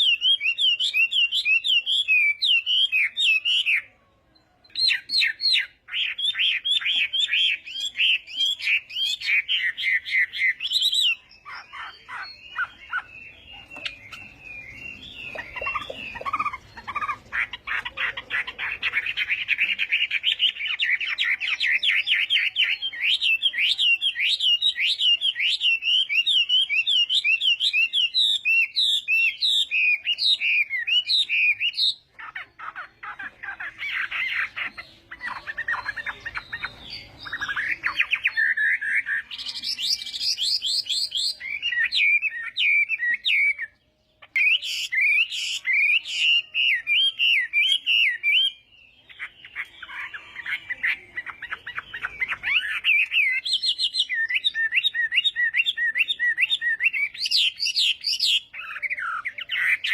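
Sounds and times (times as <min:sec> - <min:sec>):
songbird singing varied song: 0:00.0 - 0:59.9.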